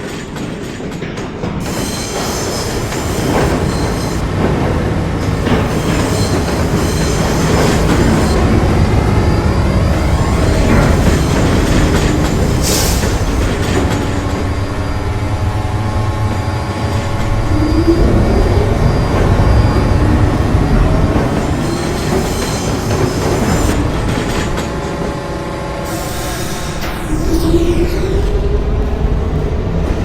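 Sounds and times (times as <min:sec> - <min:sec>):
subway train wheels rumbling: 0:00.0 - 0:30.0
train whine: 0:00.0 - 0:30.0.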